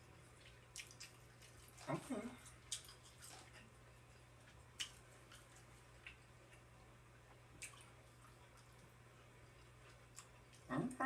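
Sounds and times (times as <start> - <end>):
low steady hum: 0.0 - 11.0
wet chewing sounds: 0.0 - 11.0.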